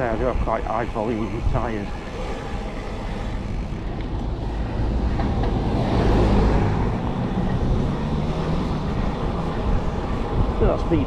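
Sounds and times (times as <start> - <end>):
bicycle road rumble: 0.0 - 11.0
wind rushing over microphone: 0.0 - 11.0.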